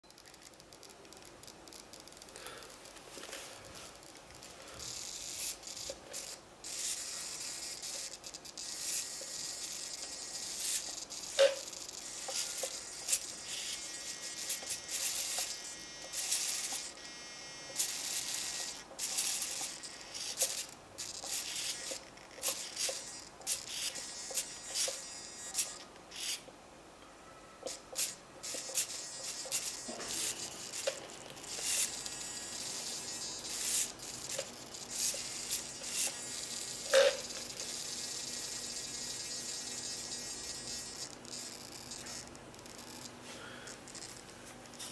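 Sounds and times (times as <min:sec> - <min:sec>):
electric motor buzzing and whining: 0:04.6 - 0:26.4, 0:27.6 - 0:44.9.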